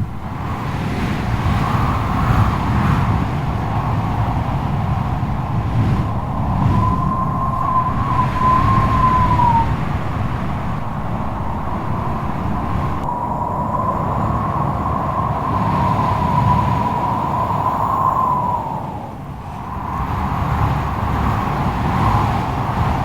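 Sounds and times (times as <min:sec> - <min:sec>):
high whistling wind howl: 0:00.0 - 0:23.0
strong gusty wind: 0:00.0 - 0:23.0.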